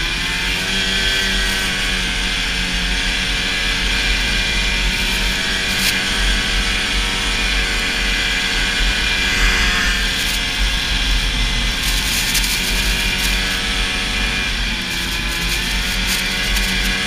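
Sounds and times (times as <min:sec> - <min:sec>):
snowmobile engine running: 0:00.0 - 0:17.0.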